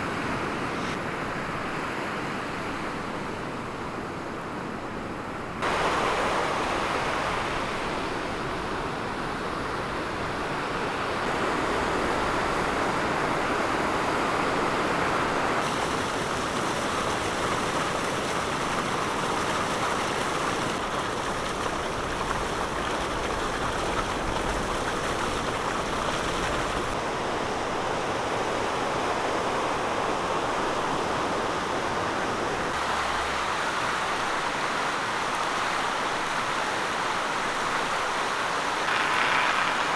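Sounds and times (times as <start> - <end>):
floodwater roaring down a stream: 0.0 - 39.9.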